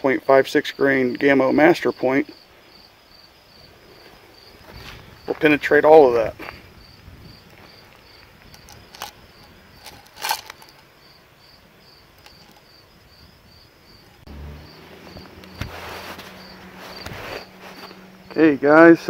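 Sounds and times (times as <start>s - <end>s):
cricket chirping: 0.1s - 19.0s.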